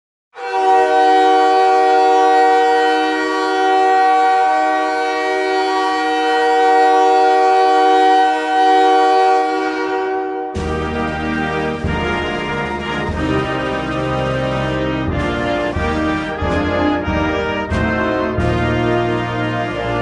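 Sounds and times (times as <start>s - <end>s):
hockey goal horn blast: 0.4s - 20.0s.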